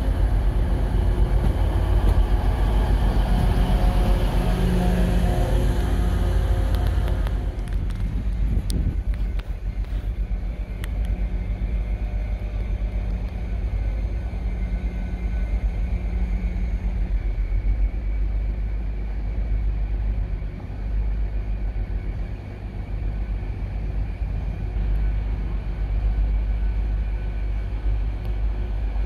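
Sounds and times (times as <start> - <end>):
diesel train engine rumble: 0.0 - 29.0.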